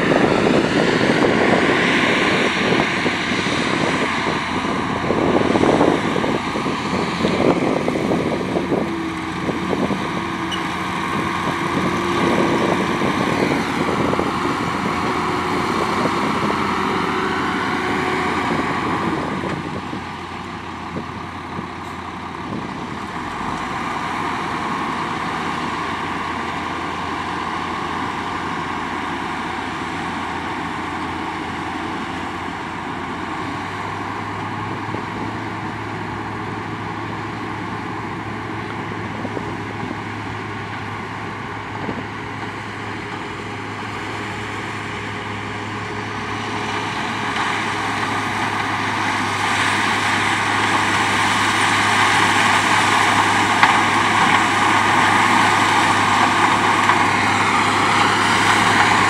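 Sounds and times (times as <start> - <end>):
harvester and truck diesel engines: 0.0 - 59.0.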